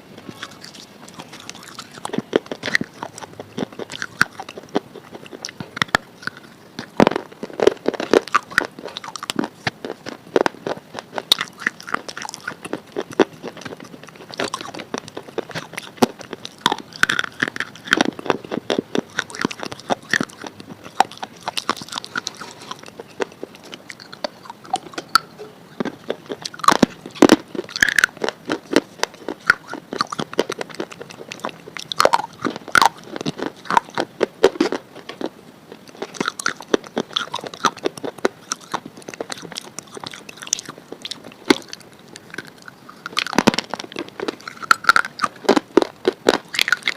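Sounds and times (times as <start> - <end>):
person chewing crunchy food: 0.2 - 46.9.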